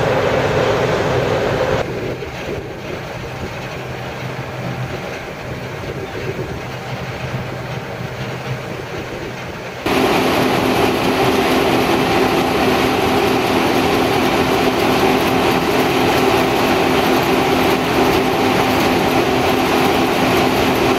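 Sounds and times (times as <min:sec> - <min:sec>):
combine harvester drone: 0:00.0 - 0:20.9.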